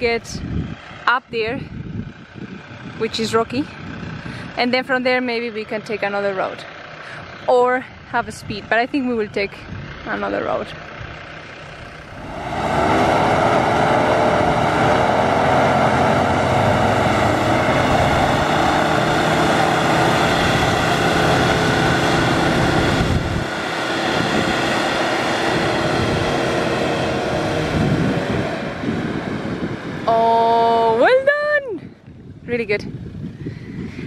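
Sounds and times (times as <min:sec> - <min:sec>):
truck engine revving: 0:00.0 - 0:31.4.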